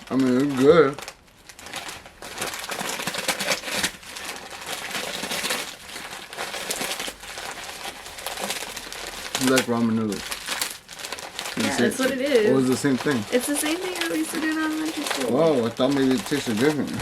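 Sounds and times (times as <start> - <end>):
plastic snack bag crinkling: 0.0 - 17.0.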